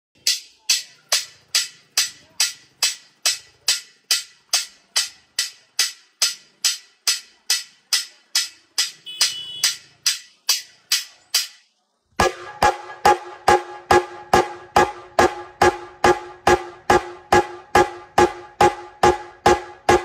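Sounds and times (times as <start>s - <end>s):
clap-like percussive beat: 0.2s - 11.6s, 12.2s - 20.0s.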